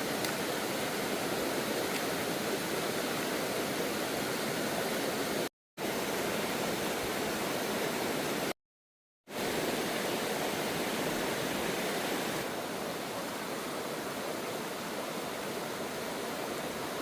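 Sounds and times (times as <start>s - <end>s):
waterfall rushing water: 0.0s - 8.5s, 9.3s - 17.0s.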